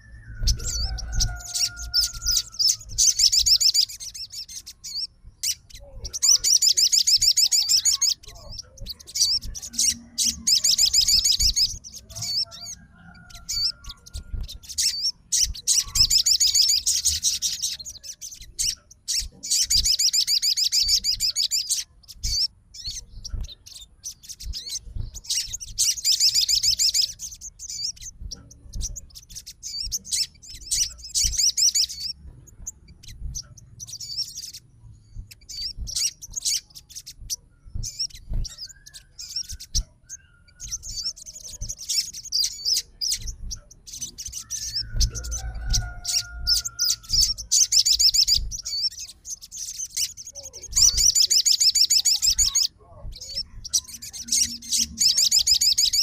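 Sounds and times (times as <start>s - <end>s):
sunbird chattering trills: 0.0s - 56.0s.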